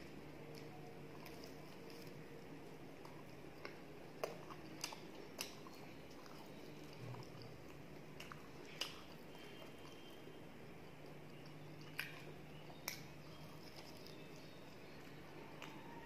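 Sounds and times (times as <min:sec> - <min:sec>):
chewing with mouth smacks: 0:00.0 - 0:16.0
faint steady hum: 0:00.0 - 0:16.0.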